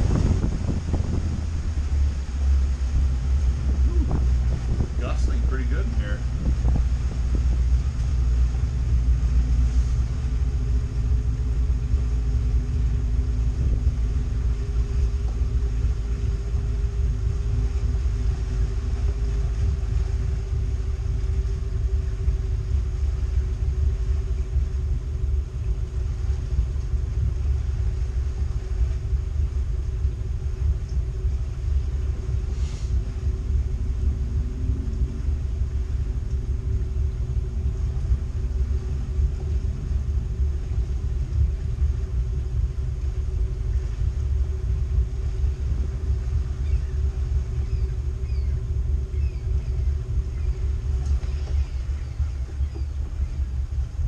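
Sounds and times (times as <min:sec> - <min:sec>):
boat engine drone: 0:00.0 - 0:54.0
wind rumbling on microphone: 0:00.0 - 0:54.0.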